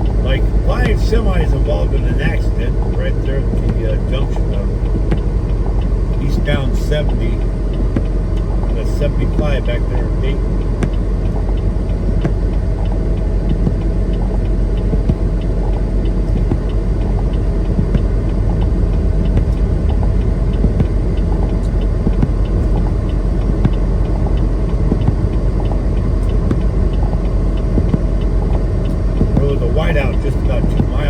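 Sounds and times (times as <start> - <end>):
truck engine rumble: 0.0 - 31.0.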